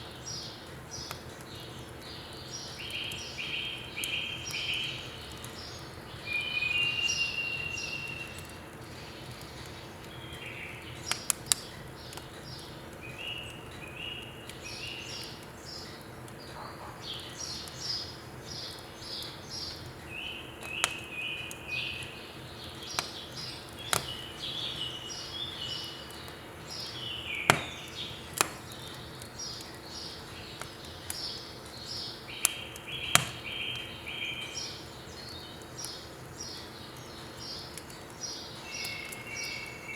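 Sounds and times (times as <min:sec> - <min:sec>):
firewood crackling: 0:00.0 - 0:39.9
small birds chirping: 0:00.0 - 0:39.9.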